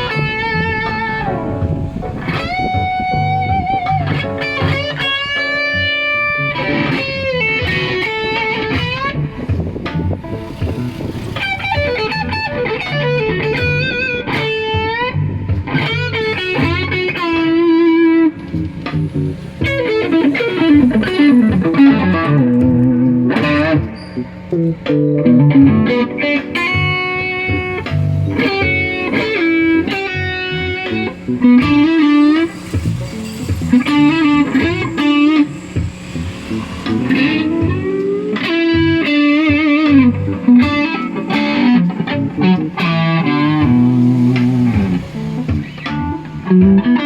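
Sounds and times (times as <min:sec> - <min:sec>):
electric guitar lead lines: 0:00.0 - 0:47.0.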